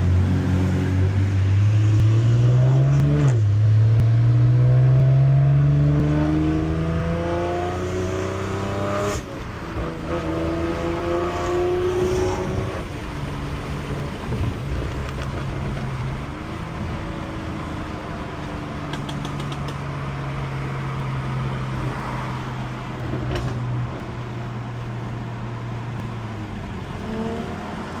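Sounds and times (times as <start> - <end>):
car engine drone: 0.0 - 28.0
road noise: 0.0 - 28.0.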